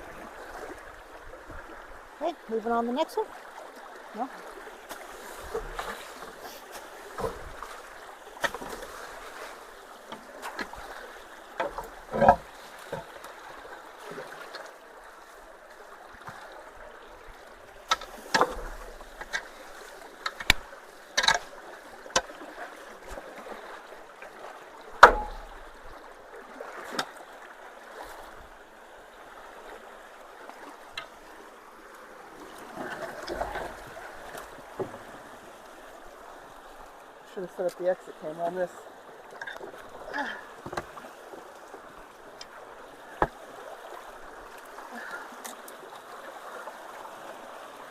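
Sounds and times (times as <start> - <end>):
creek water rushing: 0.0 - 47.9.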